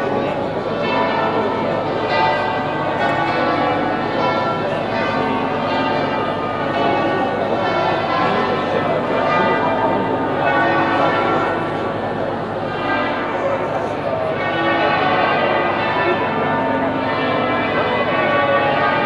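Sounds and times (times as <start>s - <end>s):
church bells ringing: 0.0s - 19.0s
crowd murmur: 0.0s - 19.0s.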